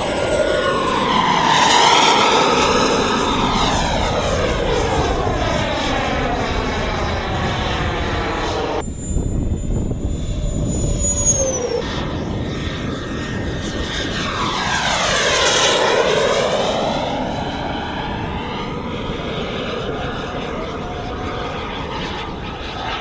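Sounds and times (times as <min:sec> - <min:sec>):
jet turbine engine whine: 0:00.0 - 0:23.0.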